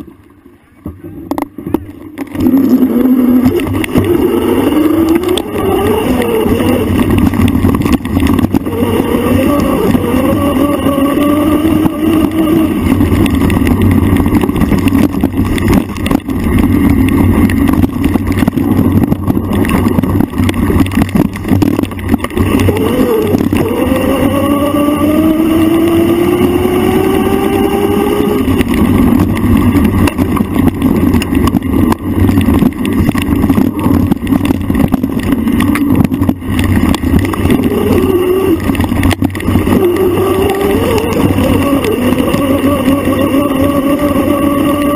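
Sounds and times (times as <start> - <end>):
wind rumble: 0.0 - 44.9
bike rattling over bumps: 0.9 - 44.9
motor tone rising: 1.7 - 44.9.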